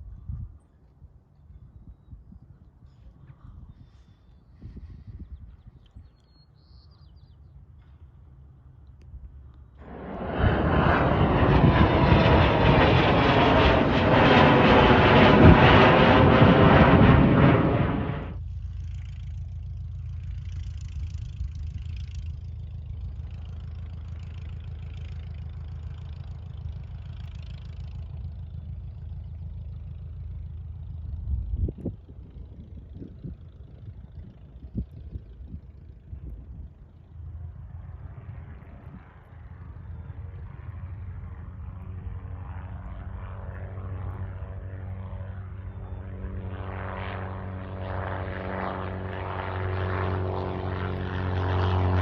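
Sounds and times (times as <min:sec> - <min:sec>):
light aircraft engine and propeller: 0:00.0 - 0:52.0
steady low rumble: 0:08.2 - 0:52.0.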